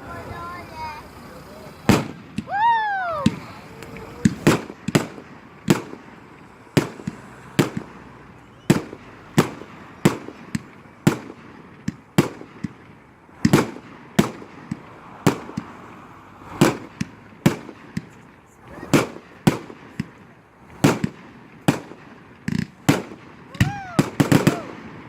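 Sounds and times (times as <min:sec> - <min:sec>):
fireworks exploding: 0:00.0 - 0:25.0.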